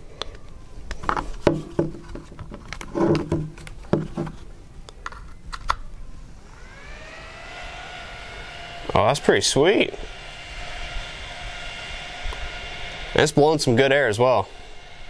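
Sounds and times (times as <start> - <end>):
small fan whine: 0.0 - 15.0.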